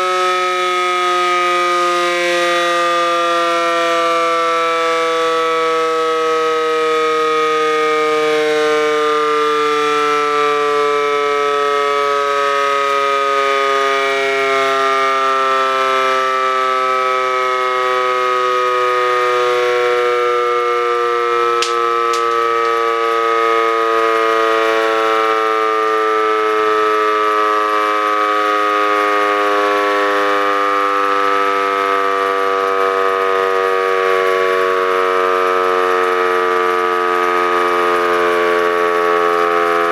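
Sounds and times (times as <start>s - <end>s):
siren wailing with sinking pitch: 0.0s - 39.9s.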